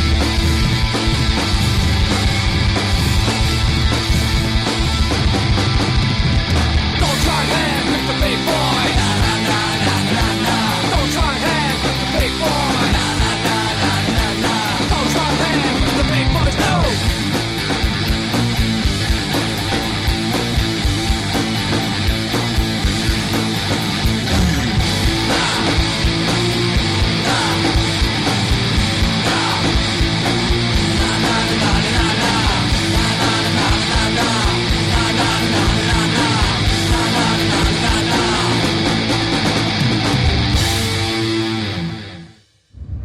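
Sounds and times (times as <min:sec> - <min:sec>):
driving drum beat: 0:00.0 - 0:41.7
distorted electric guitar: 0:00.0 - 0:42.5.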